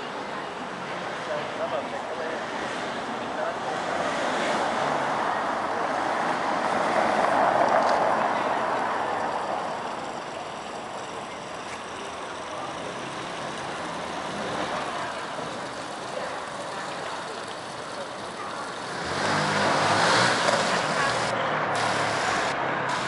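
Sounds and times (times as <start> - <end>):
town traffic noise: 0.0 - 23.0
motor vehicle passing: 3.7 - 23.0.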